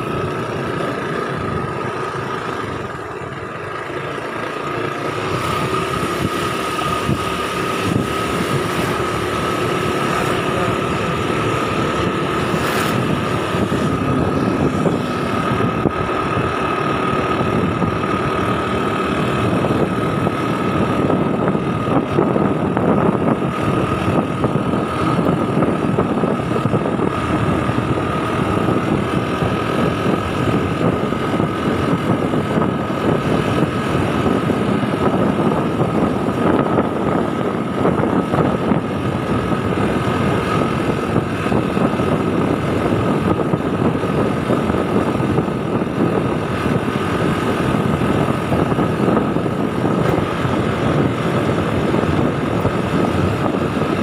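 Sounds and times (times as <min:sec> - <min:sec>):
scooter engine and road noise: 0:00.0 - 0:54.0
steady high whine: 0:00.0 - 0:54.0
wind rushing over microphone: 0:00.0 - 0:54.0.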